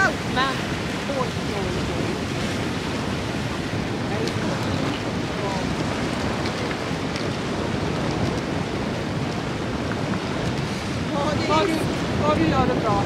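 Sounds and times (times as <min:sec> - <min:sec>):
sea washing along shore: 0:00.0 - 0:13.0
wind buffeting microphone: 0:00.0 - 0:13.0.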